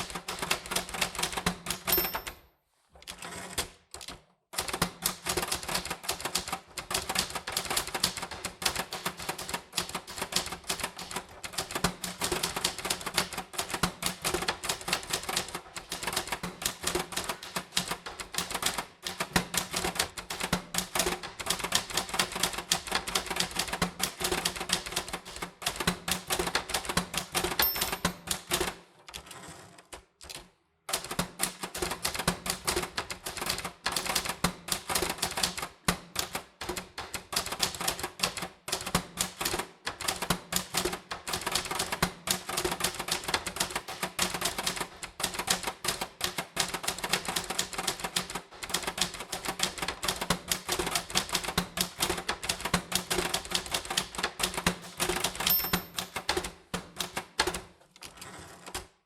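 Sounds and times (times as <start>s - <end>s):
typewriter keys clacking: 0.0s - 2.4s, 3.0s - 58.9s.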